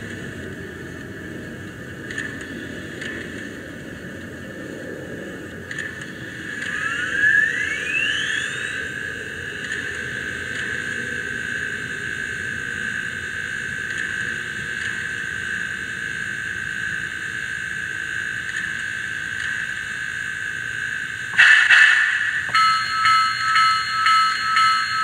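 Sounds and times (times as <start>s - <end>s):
rising whine: 0.0s - 19.8s, 21.0s - 25.0s
model locomotive whine: 0.0s - 25.0s.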